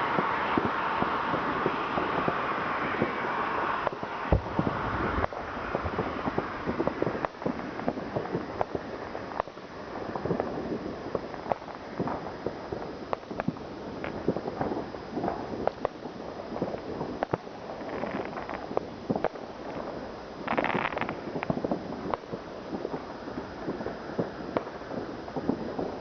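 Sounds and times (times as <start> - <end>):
fireworks bangs and crackles: 0.0 - 26.0
steady hiss: 0.0 - 26.0.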